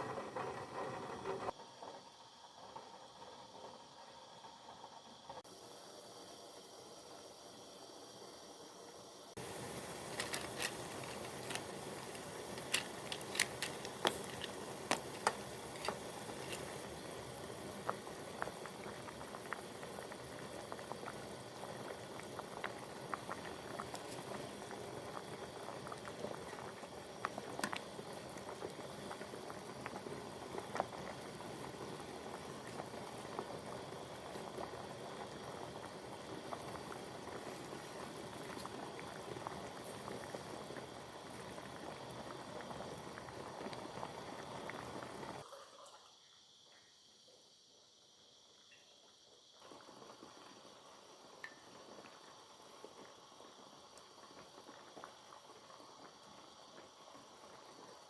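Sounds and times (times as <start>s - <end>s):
broth boiling and bubbling: 0.0s - 58.0s.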